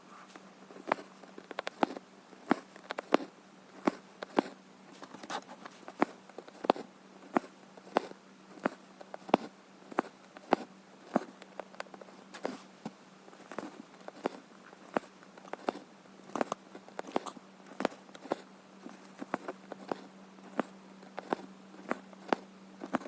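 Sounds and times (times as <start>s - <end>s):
faint steady hum: 0.0s - 23.0s
needle clicking through fabric: 0.8s - 12.5s, 13.4s - 23.0s.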